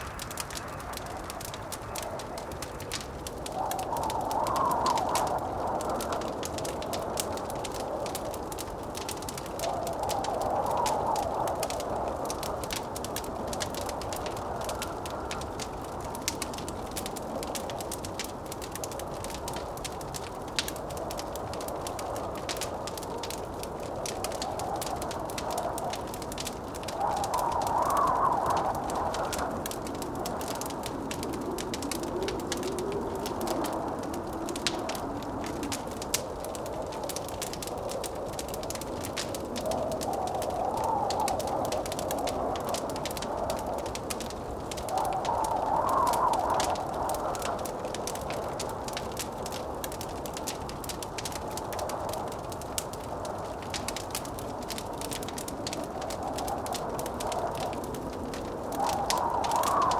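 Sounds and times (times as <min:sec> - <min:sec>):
winter wind blowing: 0:00.0 - 0:59.9
wood fire crackling and popping: 0:00.0 - 0:59.9.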